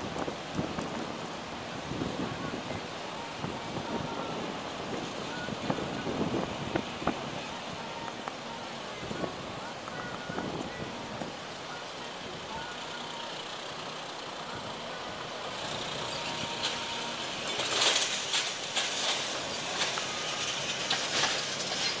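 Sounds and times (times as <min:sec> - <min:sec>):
vehicle tyre and engine noise: 0:00.0 - 0:22.0.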